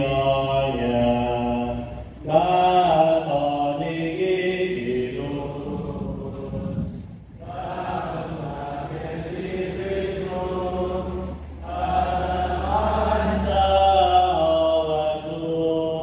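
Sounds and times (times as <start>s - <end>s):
voices chanting a hymn: 0.0s - 16.0s.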